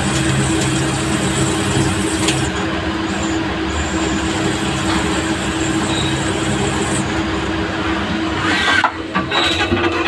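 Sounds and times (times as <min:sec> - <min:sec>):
lathe machining hum: 0:00.0 - 0:08.8.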